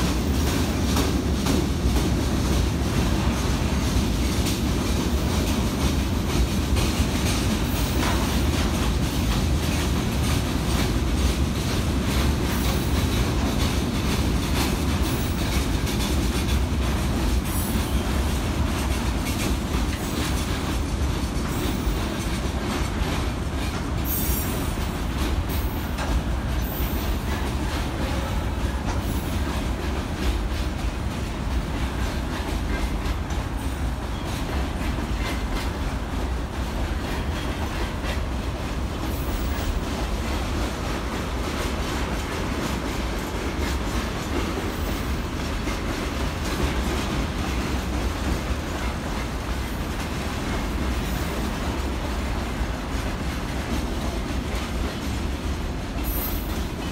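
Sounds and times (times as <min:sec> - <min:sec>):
low train rumble: 0:00.0 - 0:56.9
wheels clacking over rail joints: 0:00.0 - 0:56.9.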